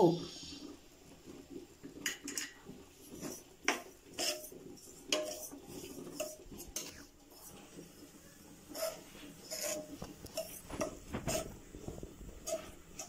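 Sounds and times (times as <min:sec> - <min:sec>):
metal spatula scraping a pan: 0:01.9 - 0:13.0.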